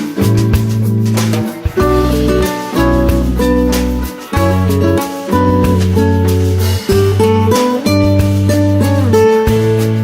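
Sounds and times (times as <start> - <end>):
plucked string tune: 0.0 - 10.0
steady bass: 0.0 - 10.0.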